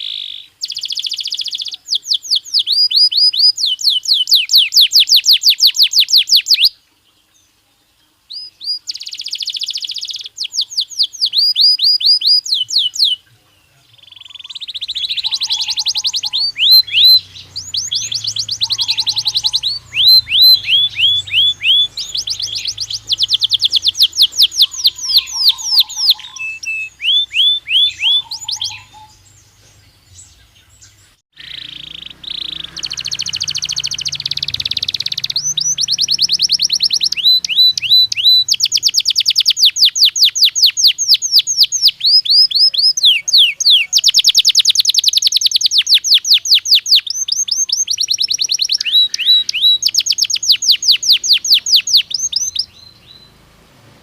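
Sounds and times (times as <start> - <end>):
canary singing trilled phrases: 0.0 - 7.1, 8.2 - 53.4.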